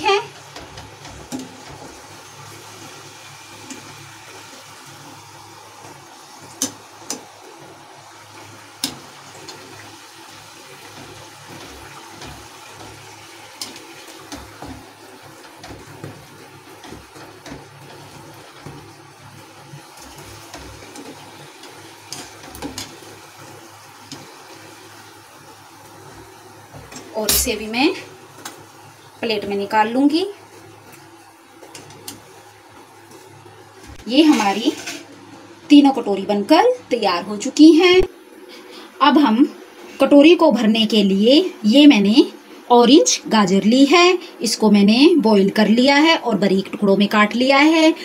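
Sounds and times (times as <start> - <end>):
hot oil sizzling: 0.0 - 48.0.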